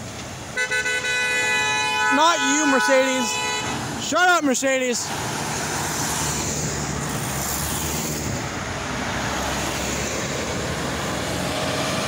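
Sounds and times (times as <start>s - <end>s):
cars passing close by: 0.0s - 12.0s.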